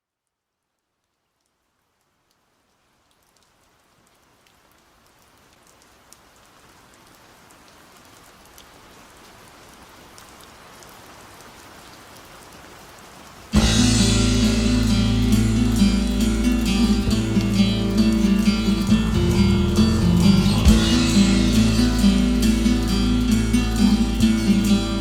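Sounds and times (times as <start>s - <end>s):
rain falling: 0.2s - 25.0s.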